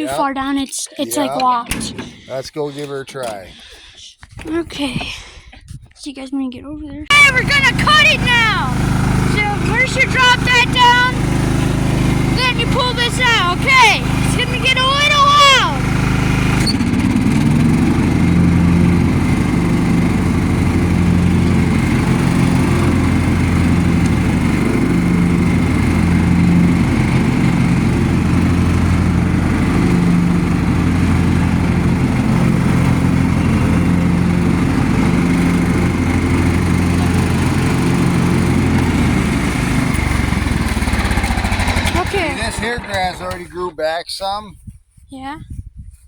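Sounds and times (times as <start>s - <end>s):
riding lawnmower engine running: 1.4s - 2.4s, 7.1s - 43.7s.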